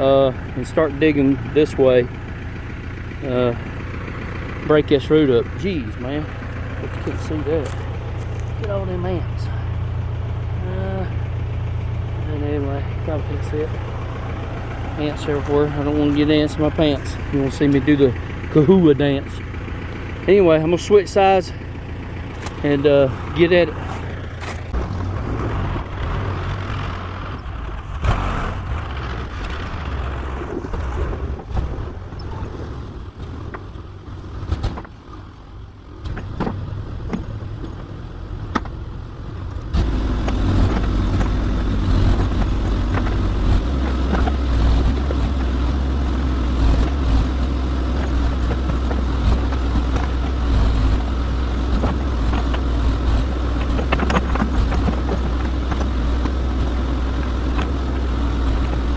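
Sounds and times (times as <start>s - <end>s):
backhoe engine running: 0.0s - 58.9s.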